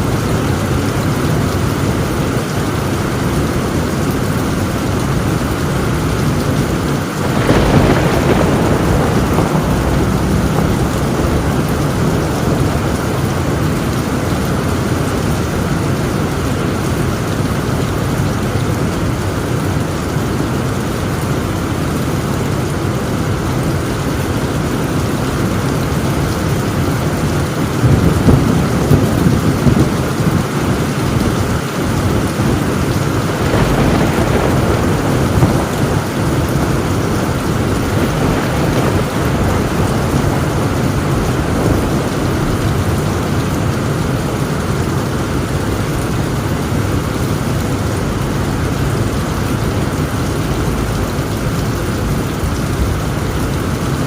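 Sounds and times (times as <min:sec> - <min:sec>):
heavy rain on a tin roof: 0:00.0 - 0:54.0
thunder rumbling: 0:00.0 - 0:54.0.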